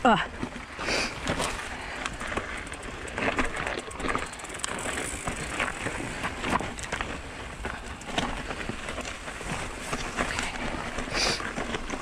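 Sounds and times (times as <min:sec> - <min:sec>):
bike rattling: 0:00.0 - 0:12.0
bike tyres crunching on rock: 0:00.2 - 0:12.0.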